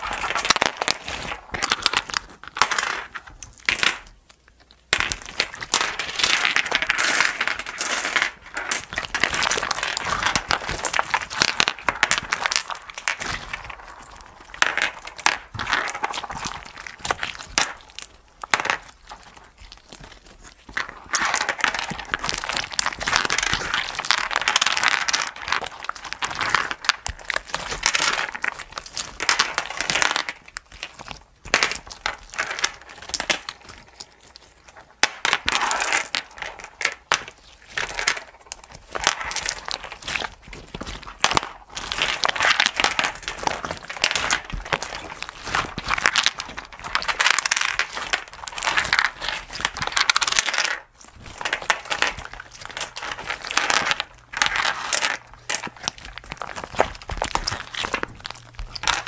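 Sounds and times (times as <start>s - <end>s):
slime squelching and crackling: 0.0s - 59.0s.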